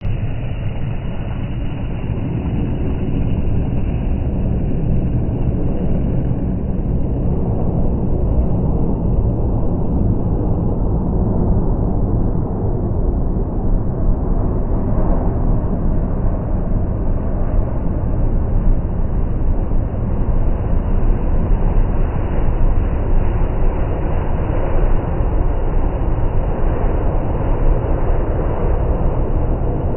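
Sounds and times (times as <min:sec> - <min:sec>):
jet engines rumbling: 0:00.0 - 0:29.9.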